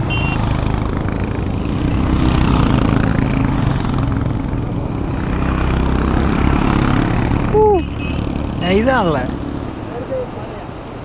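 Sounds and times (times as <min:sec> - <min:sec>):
motorcycle engine pulling away: 0:00.0 - 0:10.1.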